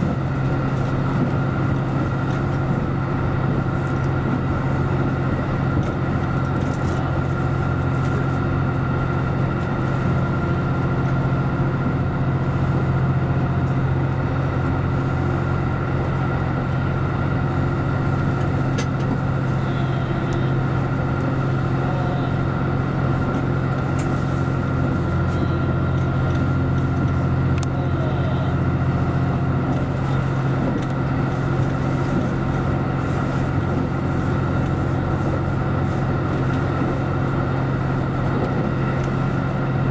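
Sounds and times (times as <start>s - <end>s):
diesel engine drone: 0.0s - 39.9s
wheel and rail noise: 0.0s - 39.9s.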